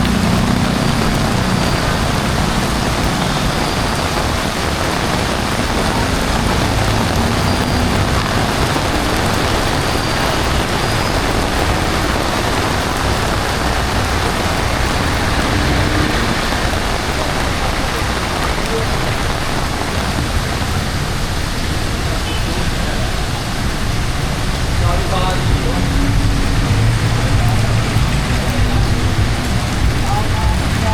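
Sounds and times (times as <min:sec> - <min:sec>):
heavy rain: 0:00.0 - 0:30.9.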